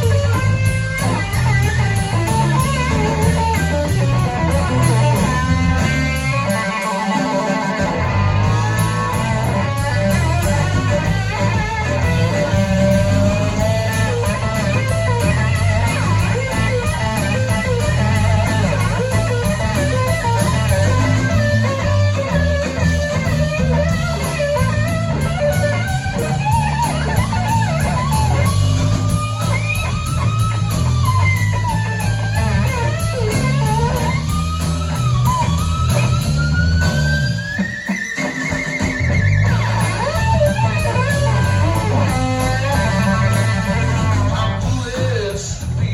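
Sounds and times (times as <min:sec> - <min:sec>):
blues-rock band playing: 0:00.0 - 0:45.9
electric guitar solo: 0:00.0 - 0:45.9.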